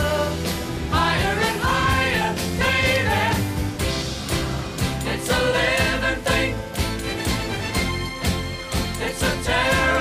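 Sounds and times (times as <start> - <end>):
song with singing over drum beat: 0.0 - 7.6, 8.3 - 10.0.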